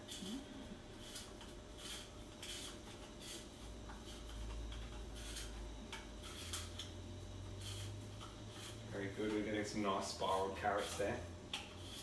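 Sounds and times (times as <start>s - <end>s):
spiralizer scraping carrot: 0.0s - 12.0s.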